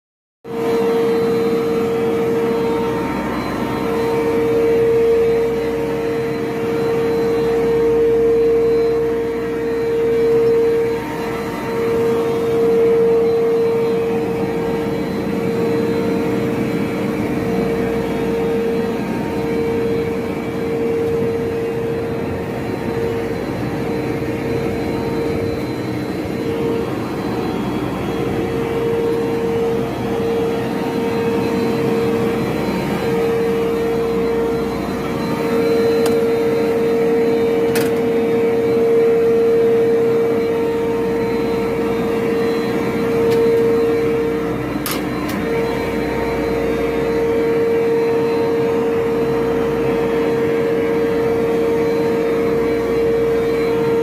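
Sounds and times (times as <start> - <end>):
machine motor humming: 0.5 - 54.0.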